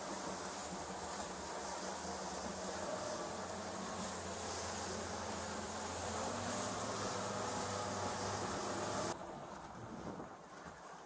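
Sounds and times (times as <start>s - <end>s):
boat engine drone: 0.0s - 9.9s
water noise: 0.0s - 11.0s.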